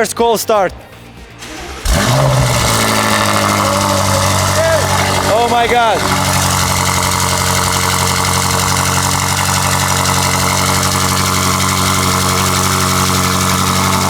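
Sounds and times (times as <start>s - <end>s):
car engine idling: 1.3s - 14.0s.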